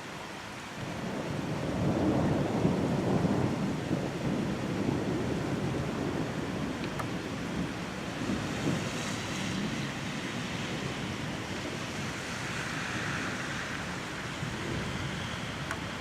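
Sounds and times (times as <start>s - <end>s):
wind and rain rushing: 0.0s - 16.0s
wind buffeting microphone: 0.6s - 16.0s.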